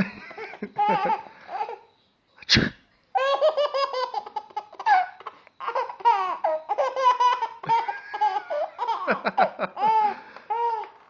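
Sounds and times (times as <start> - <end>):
baby giggling: 0.0 - 1.8, 3.2 - 10.9.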